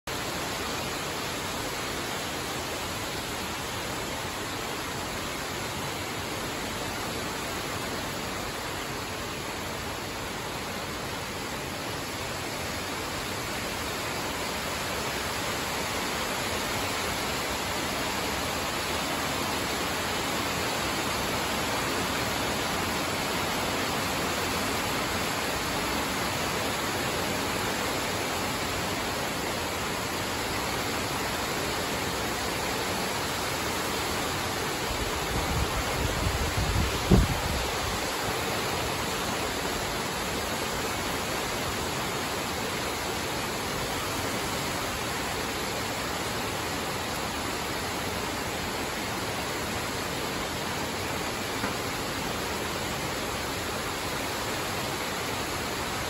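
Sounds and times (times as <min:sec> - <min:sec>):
heavy rain on trees: 0:00.0 - 0:56.0.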